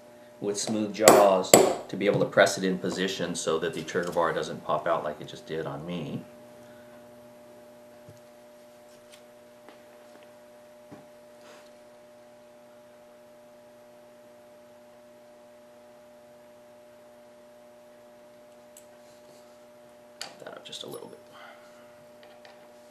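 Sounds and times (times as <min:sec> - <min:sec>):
electrical hum: 0:00.0 - 0:22.9.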